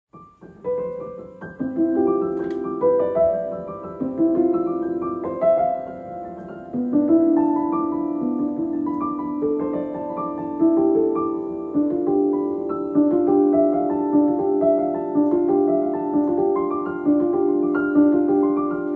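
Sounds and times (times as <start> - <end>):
slow piano chords: 0.1 - 18.9.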